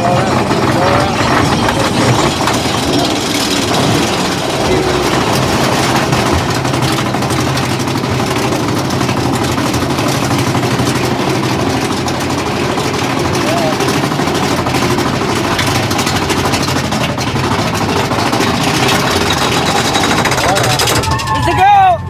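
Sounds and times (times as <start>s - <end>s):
chain and track clatter: 0.0s - 21.7s
low hum of lift drive: 0.0s - 22.0s.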